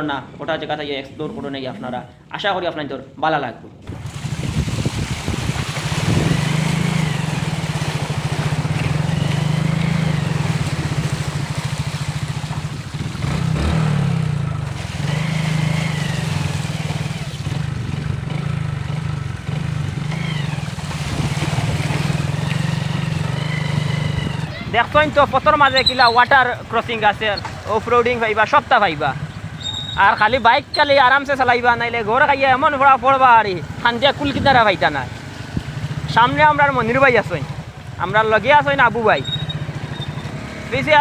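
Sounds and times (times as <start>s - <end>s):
motorcycle engine running: 3.8s - 41.0s.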